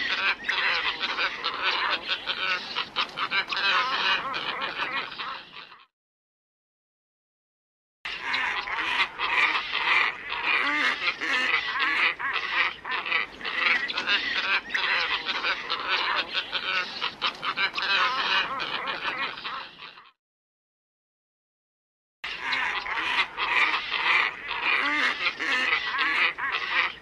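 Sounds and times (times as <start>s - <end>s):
ibises calling in chorus: 0.0s - 5.9s, 8.1s - 20.2s, 22.2s - 27.0s.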